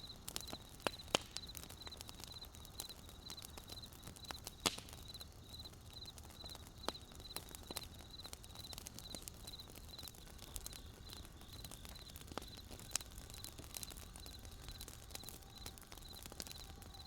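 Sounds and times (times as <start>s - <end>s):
crickets chirping: 0.0s - 17.0s
wood fire crackling and popping: 0.0s - 17.0s.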